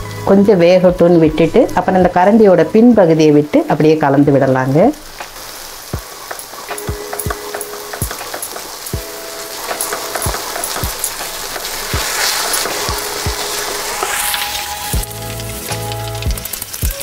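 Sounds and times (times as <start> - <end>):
soft background music: 0.0 - 5.2, 5.9 - 17.0
eggs sizzling in frying pan: 0.0 - 17.0.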